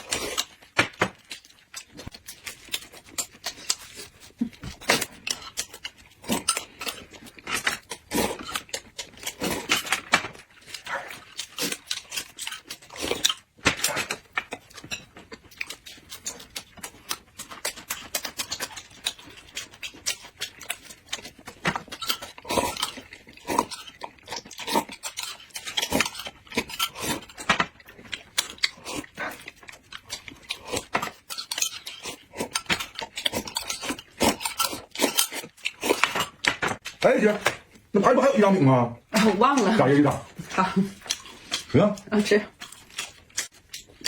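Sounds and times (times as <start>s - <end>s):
chewing and mouth noises: 0.0s - 37.0s, 39.3s - 44.0s.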